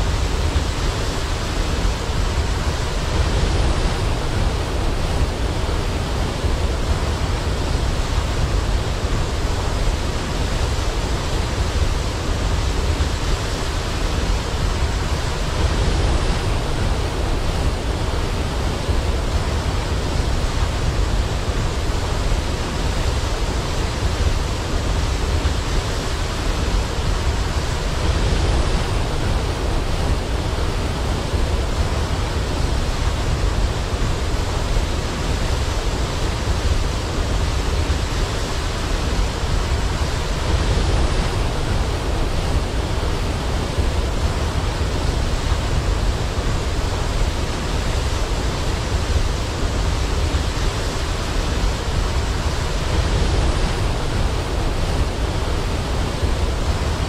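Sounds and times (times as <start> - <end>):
waterfall crashing and rushing: 0.0 - 57.0.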